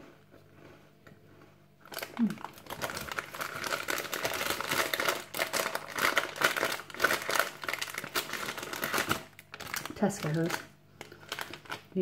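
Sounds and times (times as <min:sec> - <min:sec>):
plastic packet crinkling: 0:01.8 - 0:12.0.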